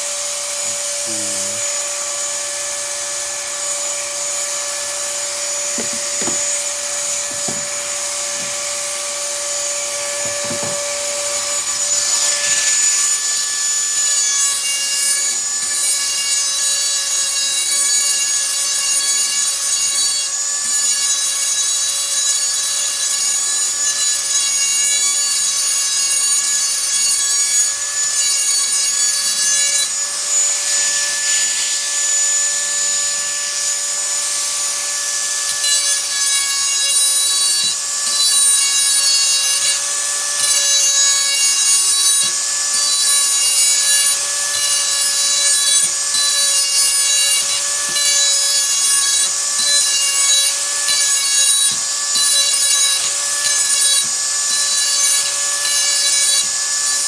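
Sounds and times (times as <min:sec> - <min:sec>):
rotary tool grinding metal: 0:00.0 - 0:57.0.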